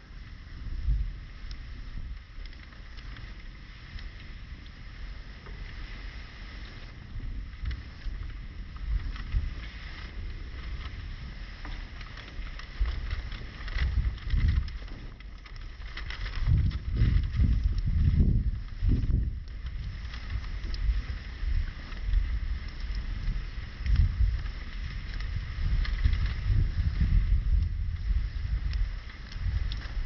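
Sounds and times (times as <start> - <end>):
wind buffeting microphone: 0.0 - 30.0
wood fire crackling and popping: 0.0 - 30.0.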